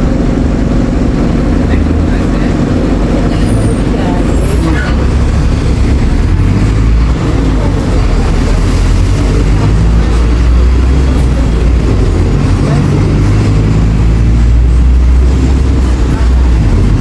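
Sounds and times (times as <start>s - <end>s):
bus engine rumble from inside: 0.0s - 17.0s.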